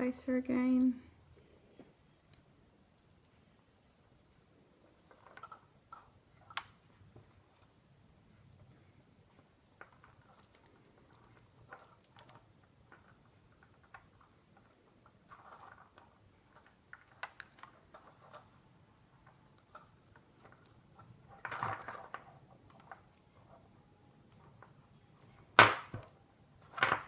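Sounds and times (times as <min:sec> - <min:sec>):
beads clicking and tapping: 0:01.8 - 0:07.8, 0:08.4 - 0:27.0.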